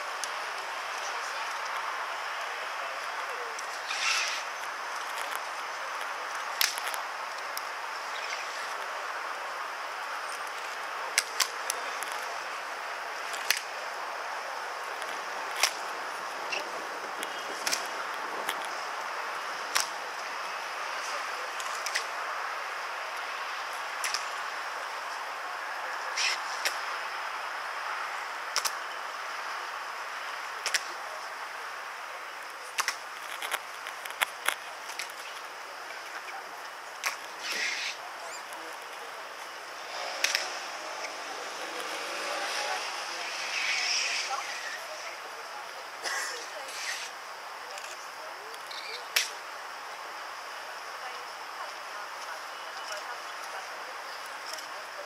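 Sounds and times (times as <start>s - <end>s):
background hiss: 0.0s - 55.0s
steady background noise: 0.0s - 55.0s.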